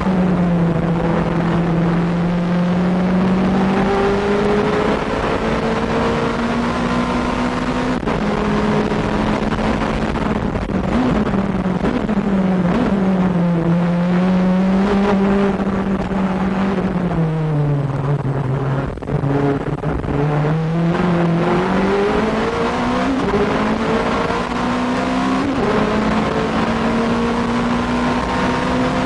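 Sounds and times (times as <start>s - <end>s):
race car engine at high revs: 0.0s - 29.0s.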